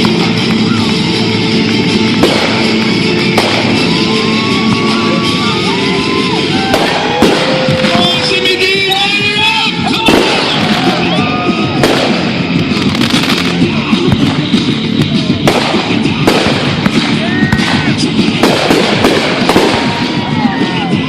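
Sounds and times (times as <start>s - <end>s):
fireworks crackling: 0.0s - 21.0s
music playing: 0.0s - 21.0s
fireworks bangs: 1.6s - 21.0s
whistling fireworks: 1.7s - 21.0s.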